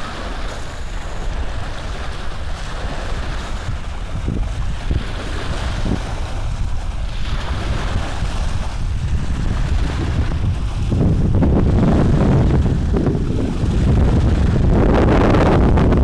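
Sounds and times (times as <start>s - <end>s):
rumbling microphone noise: 2.5s - 16.0s.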